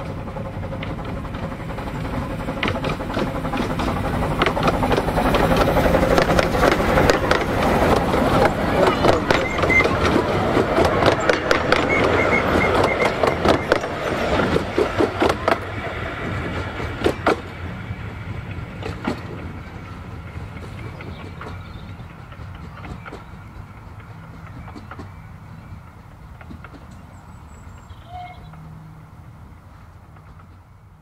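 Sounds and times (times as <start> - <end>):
train coaches clattering past: 0.0 - 31.0
wheels clicking over rail joints: 0.0 - 31.0.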